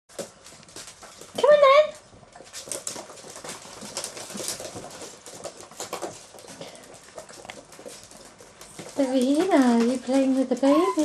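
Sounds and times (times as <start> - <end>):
puppies scuffling: 0.1 - 11.0.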